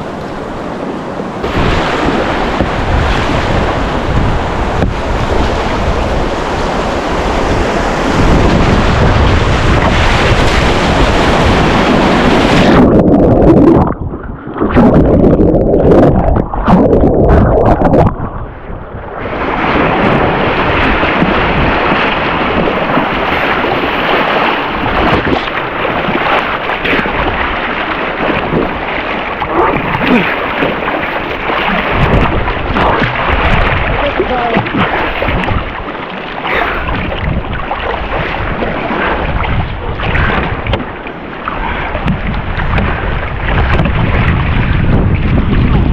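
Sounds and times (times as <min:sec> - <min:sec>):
loud rushing water: 0:00.0 - 0:18.1, 0:18.8 - 0:45.9
wind buffeting microphone: 0:00.0 - 0:45.9.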